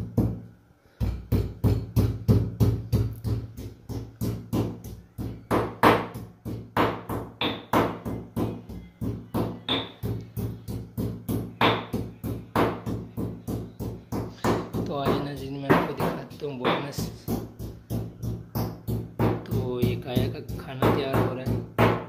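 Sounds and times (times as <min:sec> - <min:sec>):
pestle pounding in stone mortar: 0:00.0 - 0:22.0.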